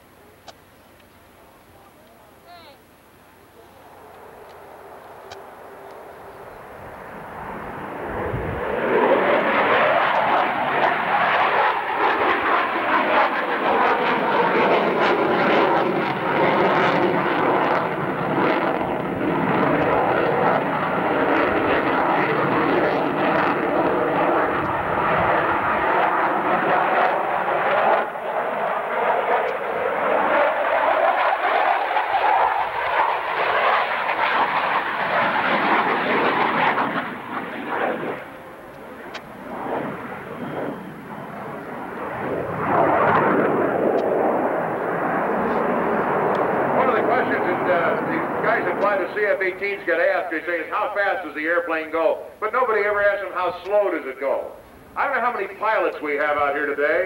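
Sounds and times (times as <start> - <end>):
jet engines roaring in flyby: 0.0 - 57.0.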